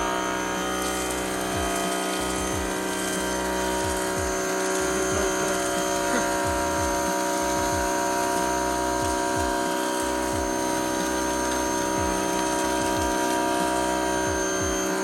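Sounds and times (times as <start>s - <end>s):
car wash machinery hum: 0.0s - 15.0s
spraying water: 0.0s - 15.0s.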